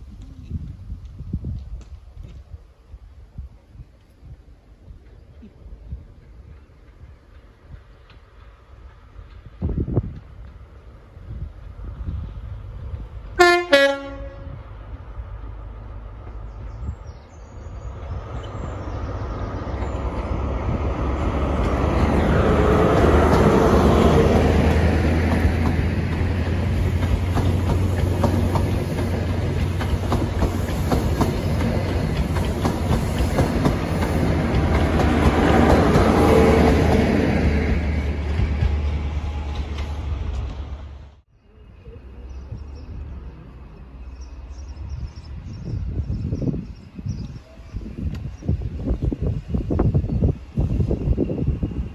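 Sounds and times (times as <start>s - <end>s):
wheel and rail noise: 0.0s - 45.5s
diesel train engines approaching: 0.0s - 51.9s.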